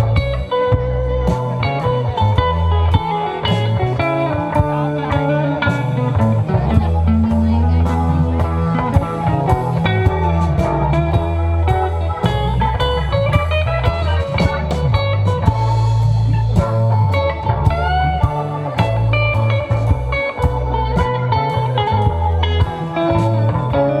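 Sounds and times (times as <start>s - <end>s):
bass guitar: 0.0s - 24.0s
drums: 0.0s - 24.0s
electric guitar lead: 0.0s - 24.0s.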